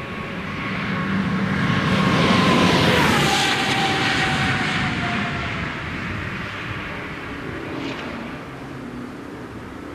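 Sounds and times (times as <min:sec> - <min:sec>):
race car passing at high speed: 0:00.0 - 0:09.9.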